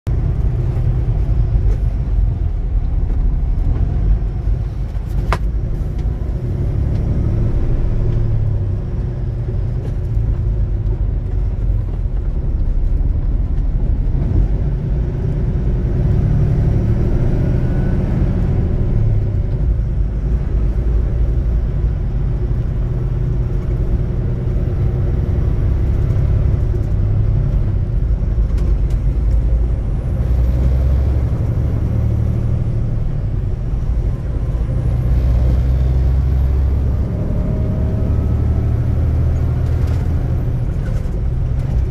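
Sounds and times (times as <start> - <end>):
truck engine and tyre noise: 0.1 - 41.9.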